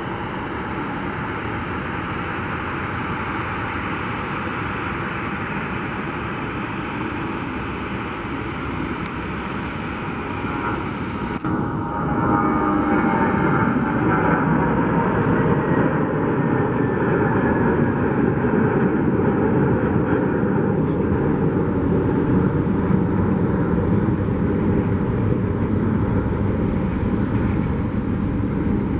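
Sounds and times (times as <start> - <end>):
jet engines roaring: 0.0 - 28.9.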